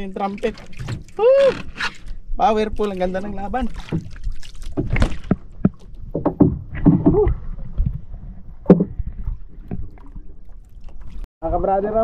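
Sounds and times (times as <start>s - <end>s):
knocks and thumps on boat: 0.0s - 10.2s.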